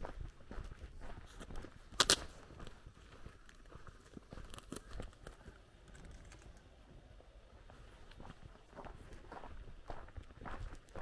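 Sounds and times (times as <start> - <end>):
faint footsteps on gravel: 0.0 - 11.0.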